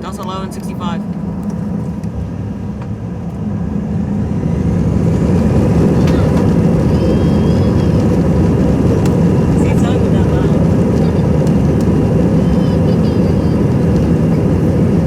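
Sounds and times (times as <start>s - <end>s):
jet engines rumbling in cabin: 0.0s - 15.0s.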